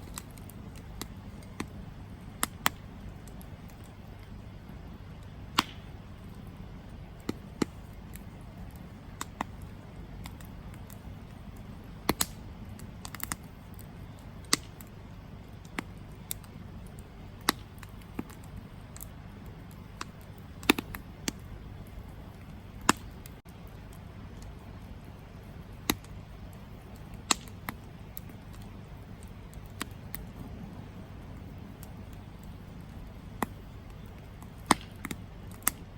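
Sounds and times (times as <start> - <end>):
campfire flames rumbling and hissing: 0.0 - 35.9
logs crackling and popping: 0.0 - 35.9.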